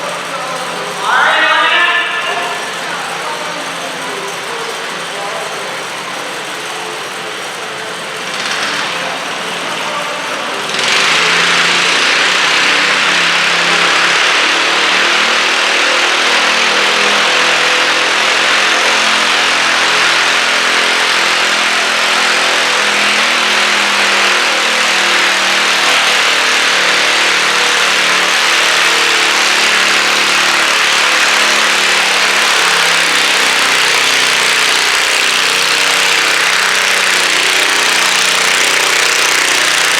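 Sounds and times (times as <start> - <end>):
tractor engine at full throttle: 0.0 - 39.9.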